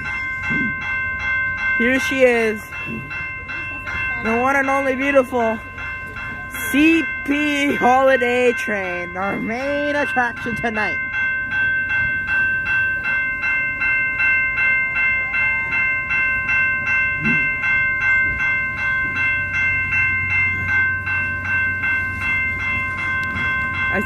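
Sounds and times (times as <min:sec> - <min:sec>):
level crossing bell ringing: 0:00.0 - 0:24.0
train cars rumbling past: 0:00.0 - 0:24.0.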